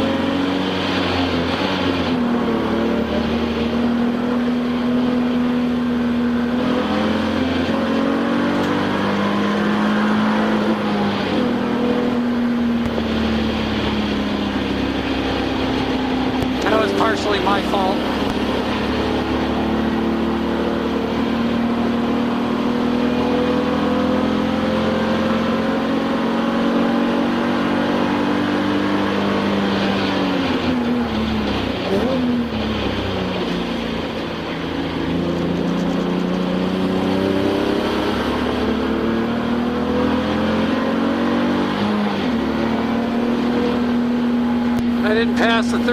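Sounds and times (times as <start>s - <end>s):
race car engine at high revs: 0.0s - 45.9s.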